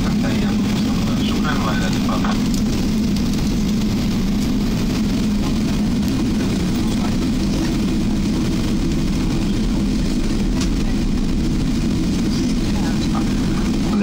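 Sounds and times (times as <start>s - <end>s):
airplane cabin roar: 0.0s - 14.0s.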